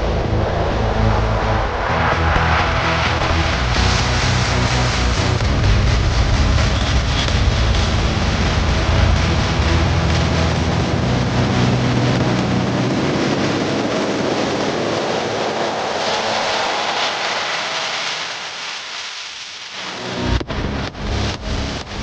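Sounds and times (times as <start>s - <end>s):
rushing noise: 0.0s - 22.0s.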